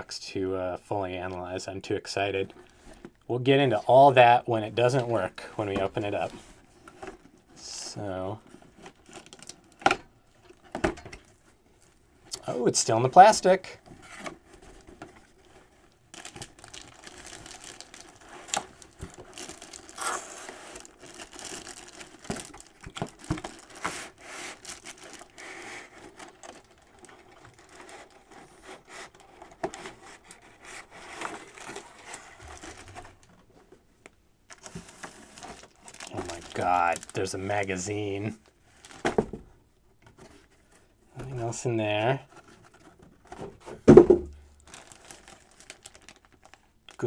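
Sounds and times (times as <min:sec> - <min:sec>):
cardboard and plastic rustling: 0:02.4 - 0:47.0.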